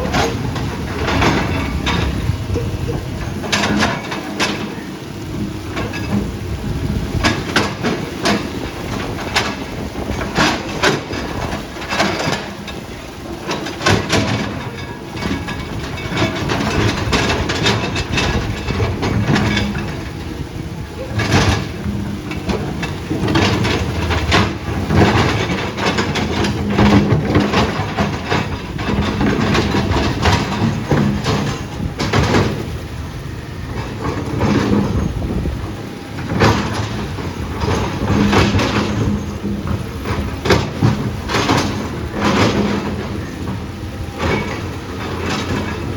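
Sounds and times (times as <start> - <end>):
metal clanks and knocks: 0.0 - 35.5, 36.2 - 45.9
diesel engine of earthmover: 0.0 - 45.9.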